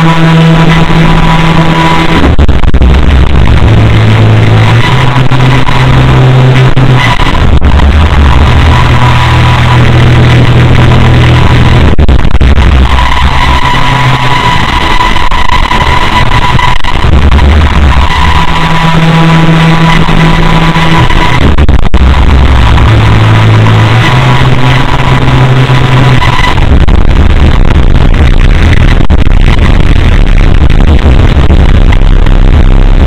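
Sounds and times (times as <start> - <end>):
distorted meme music: 0.0 - 33.0
steady high tone: 0.0 - 33.0.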